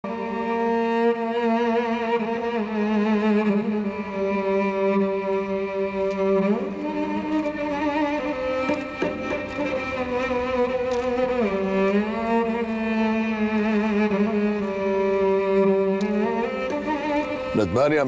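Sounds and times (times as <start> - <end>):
sustained bowed strings: 0.0 - 18.0.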